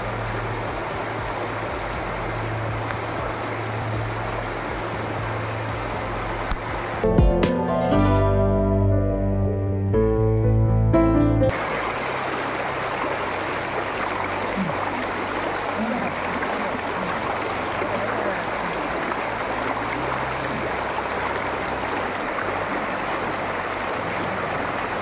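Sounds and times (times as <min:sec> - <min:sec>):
flowing water rushing: 0:00.0 - 0:07.6, 0:11.5 - 0:25.0.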